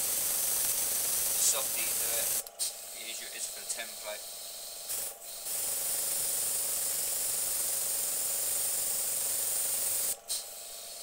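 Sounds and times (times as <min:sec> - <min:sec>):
airbrush puff: 0:00.0 - 0:02.9, 0:04.7 - 0:11.0
airbrush spraying hiss: 0:00.0 - 0:11.0.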